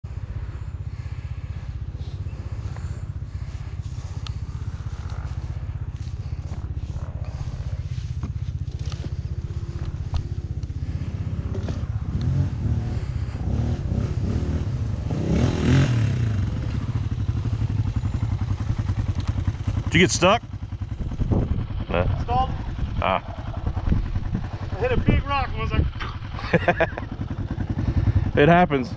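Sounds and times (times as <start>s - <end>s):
dirt bike engine idling: 0.0s - 28.9s
dirt bike engine revving: 0.3s - 28.9s.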